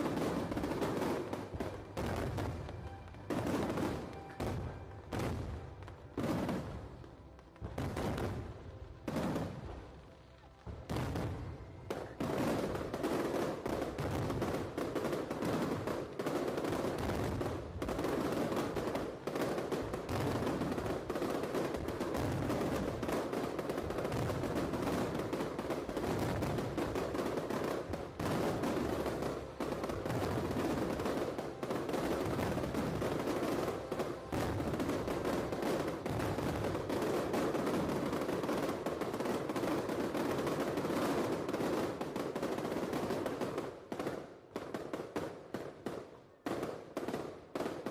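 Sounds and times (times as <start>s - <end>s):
fireworks crackling barrage: 0.0s - 47.9s.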